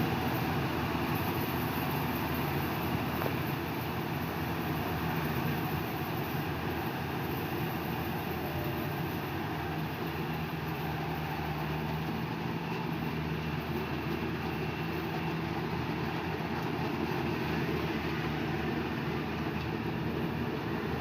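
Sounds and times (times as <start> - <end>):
harvester engine humming: 0.0 - 21.0.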